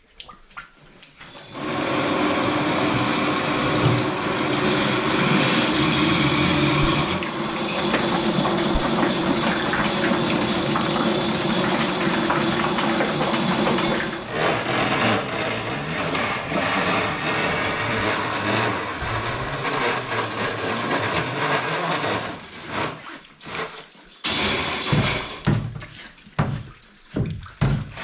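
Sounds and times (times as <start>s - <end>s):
drain-cleaning machine running: 1.3s - 25.9s.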